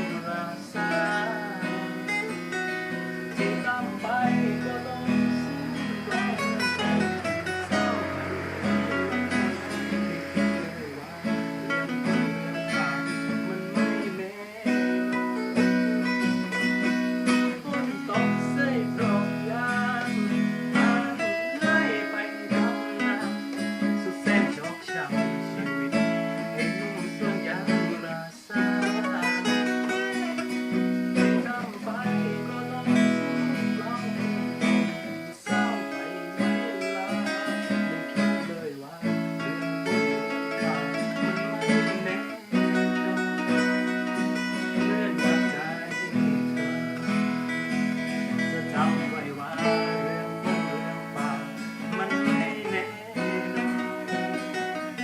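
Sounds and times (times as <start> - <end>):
acoustic guitar plucked and strummed: 0.0 - 55.0.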